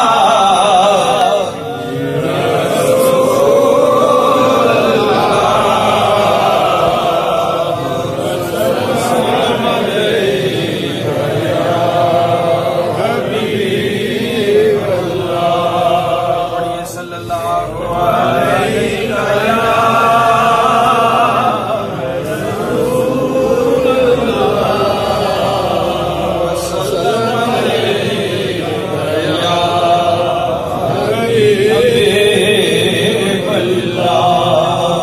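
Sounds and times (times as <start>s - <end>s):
man chanting into a microphone: 0.0s - 35.0s.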